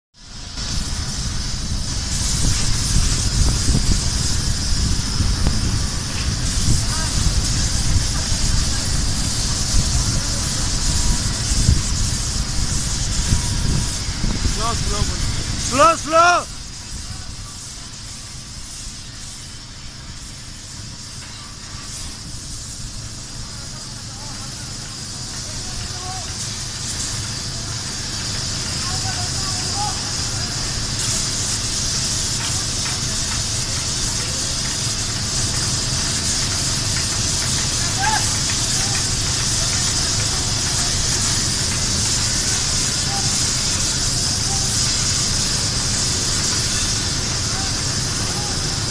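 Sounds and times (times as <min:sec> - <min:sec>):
spray gun hissing: 0:00.2 - 0:48.9.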